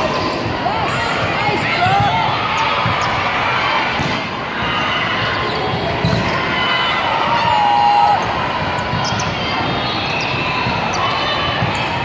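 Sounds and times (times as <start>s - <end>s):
din of large sports hall: 0.0s - 12.0s
volleyball hits: 1.1s - 4.9s, 5.6s - 12.0s.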